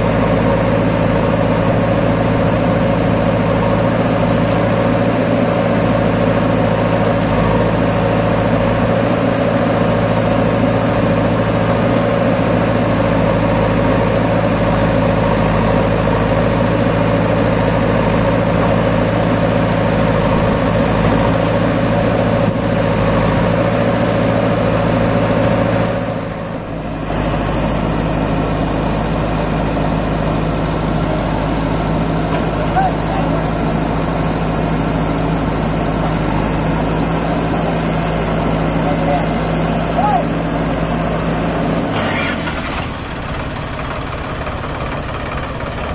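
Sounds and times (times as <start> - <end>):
diesel engines droning: 0.0 - 45.9.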